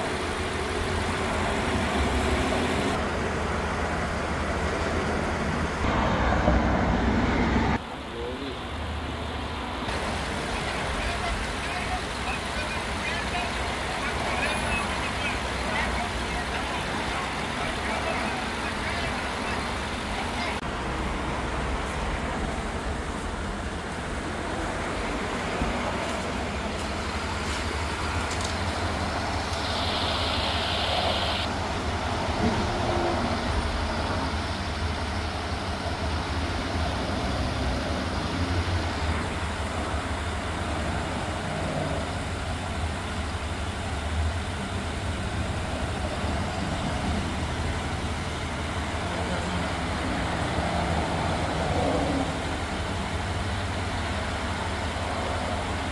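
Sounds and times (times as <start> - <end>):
pickup truck idling: 0.0 - 6.3, 7.8 - 55.9.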